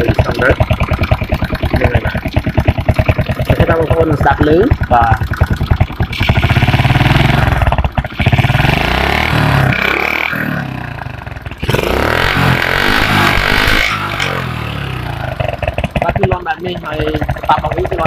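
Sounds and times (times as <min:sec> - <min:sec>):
motorcycle engine revving: 0:00.0 - 0:18.0
rattling engine knock: 0:00.0 - 0:18.0.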